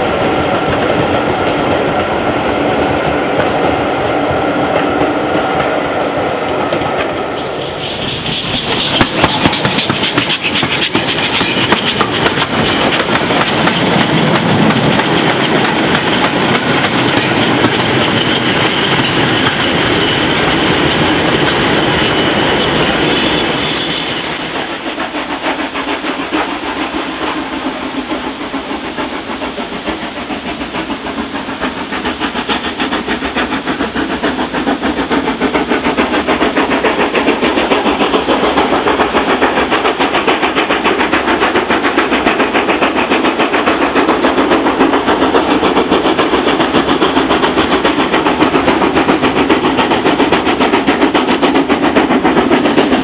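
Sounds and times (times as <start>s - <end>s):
train running with held tones: 0.0s - 53.0s
train wheels clattering over rail joints: 6.4s - 53.0s.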